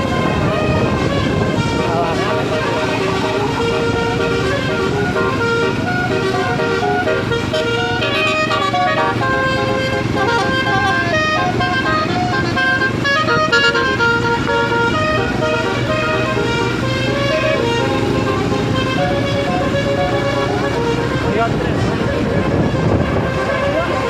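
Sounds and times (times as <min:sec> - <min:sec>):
engine rumble: 0:00.0 - 0:24.0
musical bus horn melody: 0:00.0 - 0:24.0.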